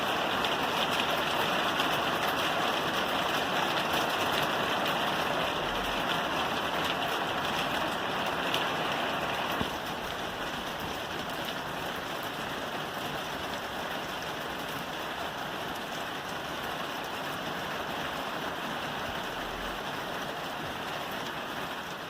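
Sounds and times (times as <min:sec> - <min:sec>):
rain on a roof: 0:00.0 - 0:22.0.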